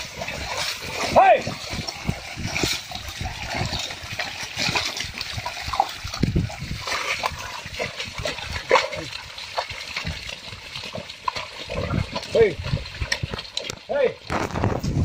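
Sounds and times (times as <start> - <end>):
water and mud splashing: 0.0 - 15.0.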